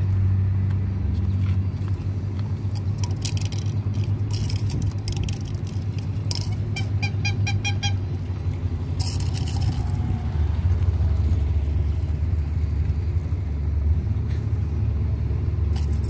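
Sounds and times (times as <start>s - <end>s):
low rumble with crackles: 0.0s - 14.8s.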